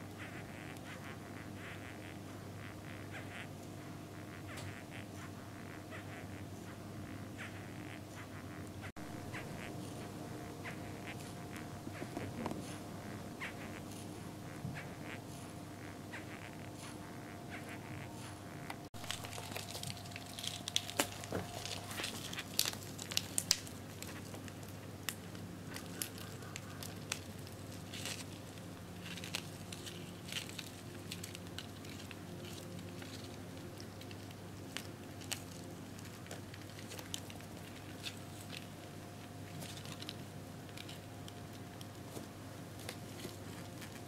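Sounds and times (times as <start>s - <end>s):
steady low hum: 0.0s - 44.0s
beetles scratchy clicks: 0.1s - 42.2s.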